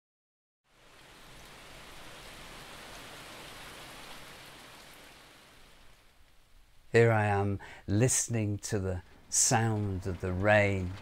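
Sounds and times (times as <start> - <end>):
rain pattering on a roof: 0.7 - 11.0.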